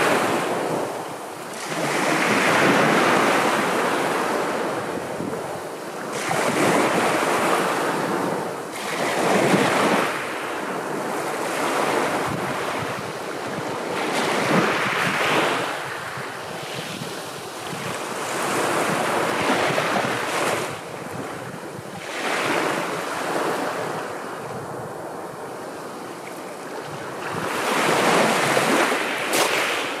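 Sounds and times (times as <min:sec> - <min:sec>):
sea waves breaking on shore: 0:00.0 - 0:30.0.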